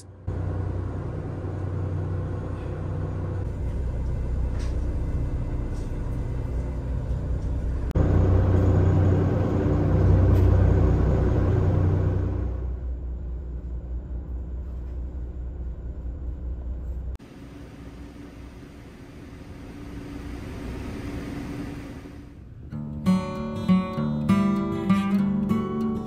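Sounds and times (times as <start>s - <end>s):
ferry engines droning: 0.0s - 26.0s.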